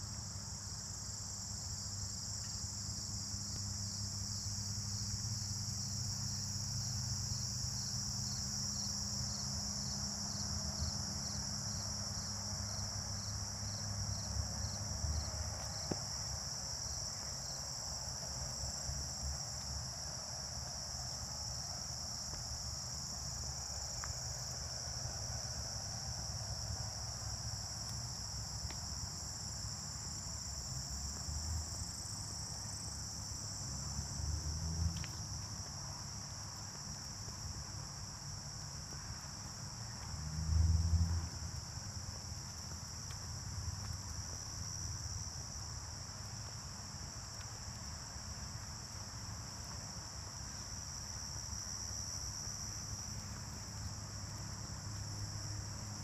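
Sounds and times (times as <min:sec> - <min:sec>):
crickets and insects chorus: 0:00.0 - 0:56.0.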